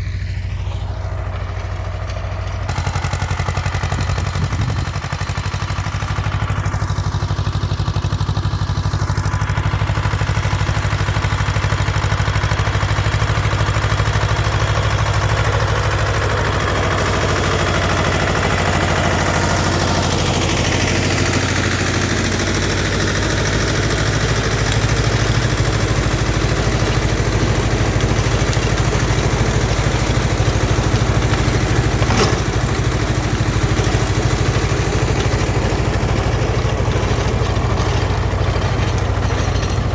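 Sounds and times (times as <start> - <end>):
rotary tiller in soil: 0.0 - 39.9
tractor diesel engine under load: 0.0 - 39.9.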